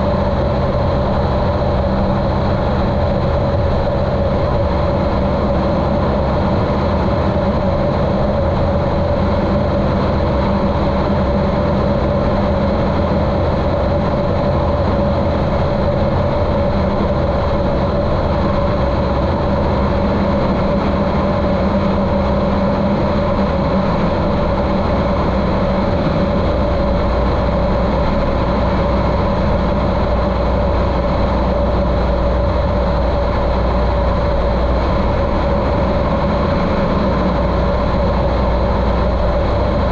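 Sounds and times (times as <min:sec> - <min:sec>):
muffled airplane engine drone: 0:00.0 - 0:39.9.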